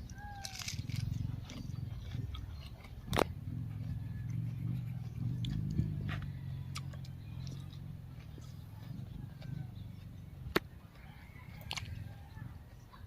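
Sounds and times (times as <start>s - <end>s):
person chewing crunchy vegetables: 0.0s - 12.6s.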